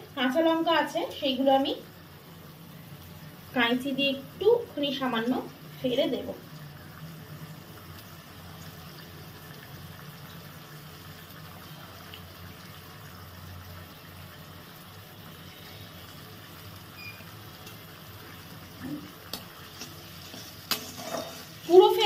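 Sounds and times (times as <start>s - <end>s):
water boiling in a wok: 0.0s - 22.0s.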